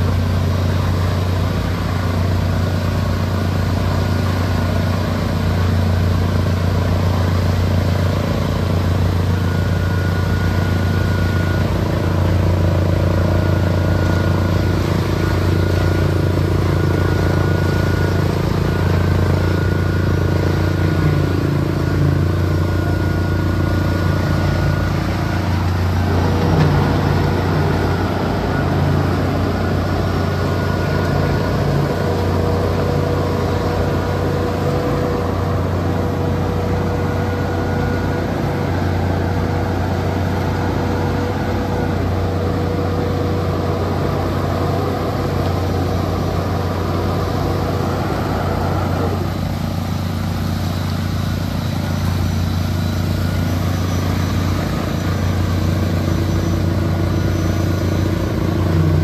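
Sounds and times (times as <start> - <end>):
diesel engine running: 0.0 - 59.0
steady whine: 0.0 - 59.0.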